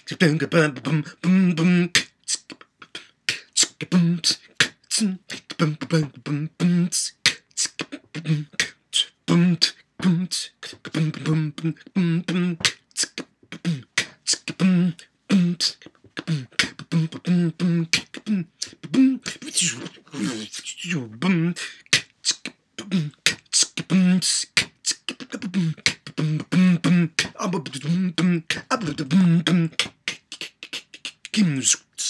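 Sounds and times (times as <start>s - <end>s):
man beatboxing: 0.0s - 32.0s.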